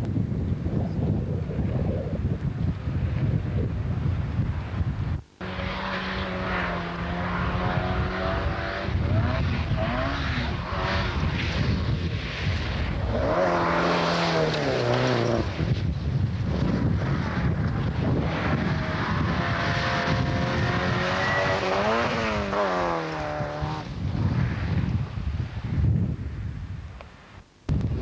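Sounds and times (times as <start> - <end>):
rally car engines running hard: 0.0 - 26.6
gravel noise: 0.0 - 28.0
wind noise: 0.0 - 28.0.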